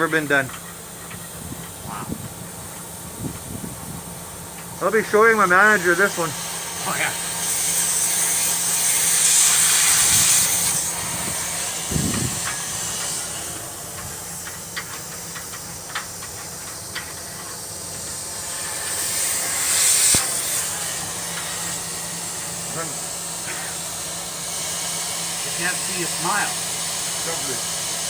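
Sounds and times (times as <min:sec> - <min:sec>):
low machine hum: 0:00.0 - 0:28.0
rushing air hiss: 0:00.0 - 0:28.0.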